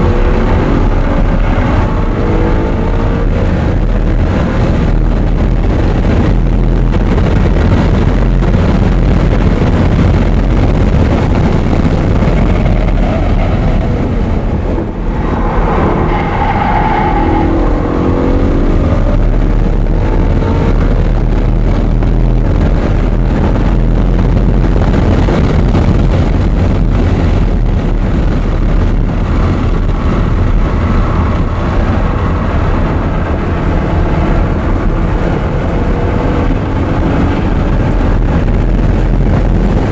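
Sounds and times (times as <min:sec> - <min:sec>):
car engine running hard: 0:00.0 - 0:39.9
road rumble: 0:00.0 - 0:39.9
wind noise on microphone: 0:00.0 - 0:39.9.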